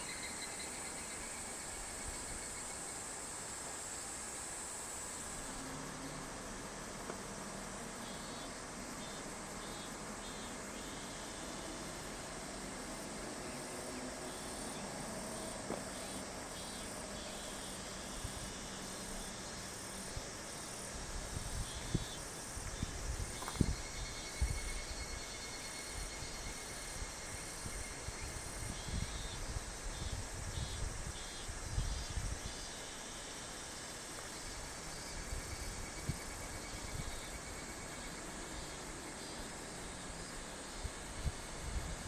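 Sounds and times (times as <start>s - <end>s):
insects chirping: 0.0s - 42.0s.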